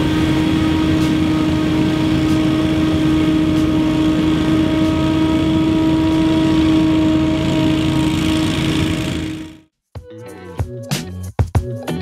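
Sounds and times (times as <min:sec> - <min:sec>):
leaf blower running: 0:00.0 - 0:09.6.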